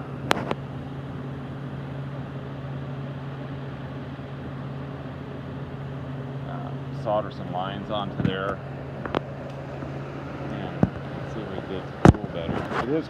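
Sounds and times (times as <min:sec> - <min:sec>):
air conditioner fan blowing: 0:00.0 - 0:13.0
compressor humming: 0:00.0 - 0:13.0.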